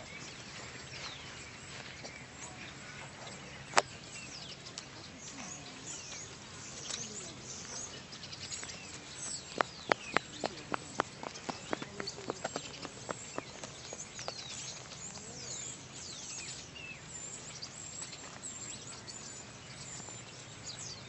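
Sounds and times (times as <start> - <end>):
quick footsteps on pavement: 0.0 - 21.0
small birds chirping: 0.0 - 21.0.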